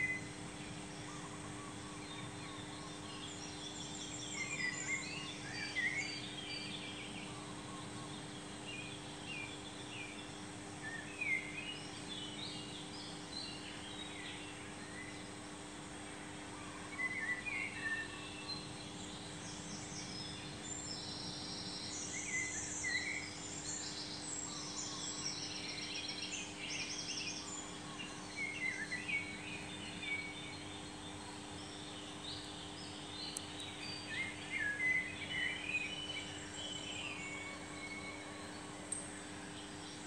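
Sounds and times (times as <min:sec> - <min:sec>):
small birds chirping and trilling: 0:00.0 - 0:40.0
steady low hum: 0:00.0 - 0:40.0.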